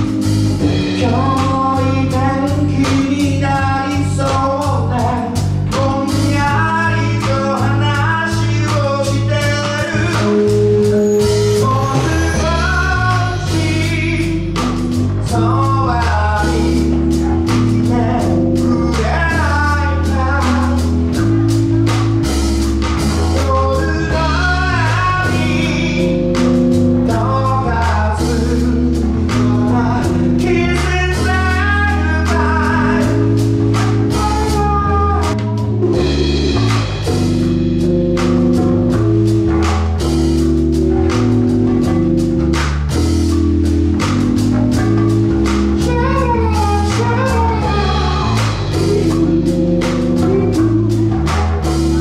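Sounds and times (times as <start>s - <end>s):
man singing soul melody: 0.0s - 40.1s, 44.7s - 52.0s
drum kit with cymbals: 0.0s - 52.0s
electric bass: 0.0s - 52.0s
keyboard chords: 0.0s - 52.0s.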